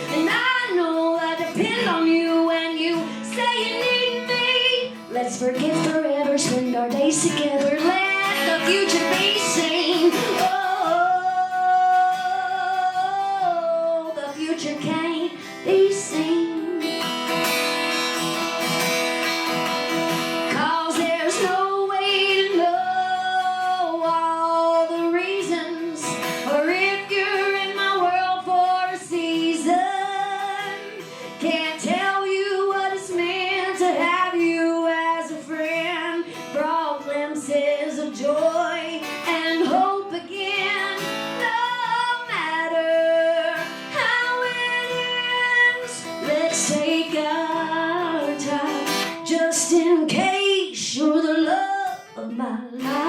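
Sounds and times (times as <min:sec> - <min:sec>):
woman singing: 0:00.0 - 0:18.0, 0:20.2 - 0:53.0
acoustic guitar: 0:00.0 - 0:53.0.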